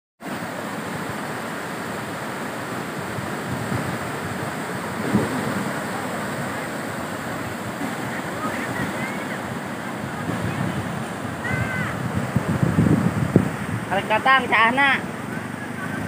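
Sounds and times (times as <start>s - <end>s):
river rushing: 0.2s - 16.0s.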